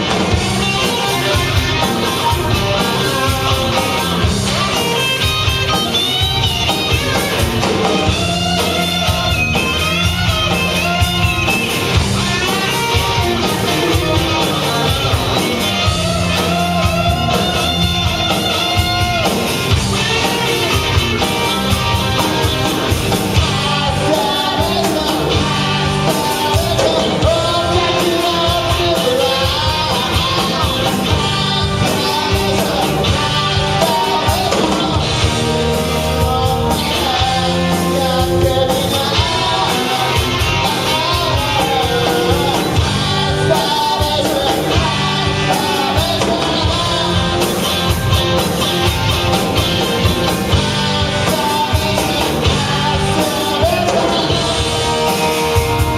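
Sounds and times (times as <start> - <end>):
person singing: 0.0 - 55.9
rock band playing: 0.0 - 55.9.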